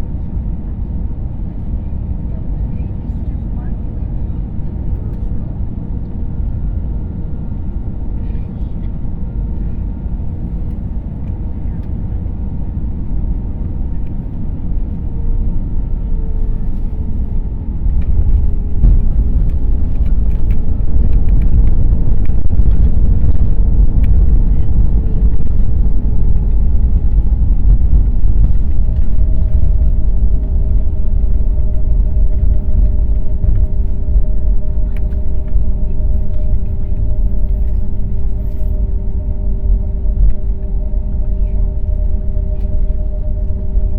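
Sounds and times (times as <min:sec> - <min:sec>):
faint engine whine: 0:00.0 - 0:43.9
jet engines and airflow rumbling: 0:00.0 - 0:43.9.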